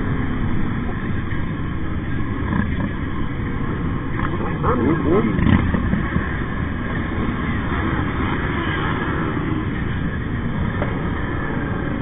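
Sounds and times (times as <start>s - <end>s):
motorcycle engine at road speed: 0.0s - 12.0s.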